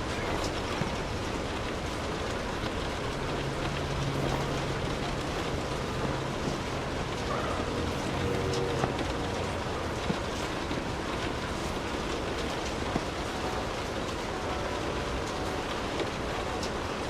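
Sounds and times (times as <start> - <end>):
low steady hum: 0.0 - 17.0
steady rainfall: 0.0 - 17.0.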